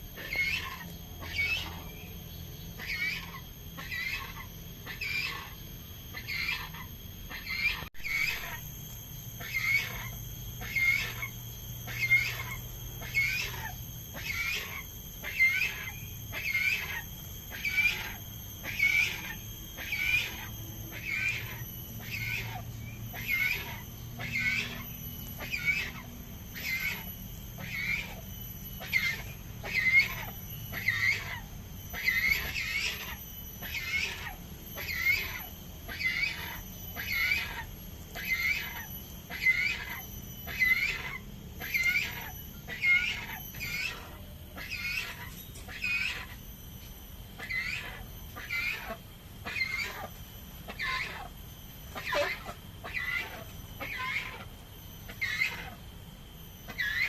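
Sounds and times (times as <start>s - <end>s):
cockatoo screeching: 0.0s - 57.0s.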